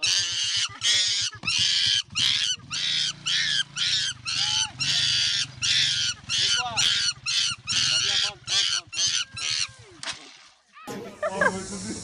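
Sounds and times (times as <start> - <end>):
monkey screaming shrilly: 0.0 - 9.8.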